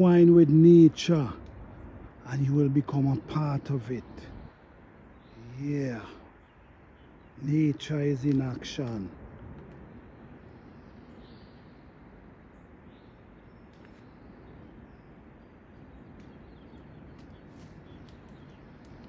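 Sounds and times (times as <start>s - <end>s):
faint birds chirping: 0.0s - 19.0s
low outdoor background rumble: 0.0s - 19.0s.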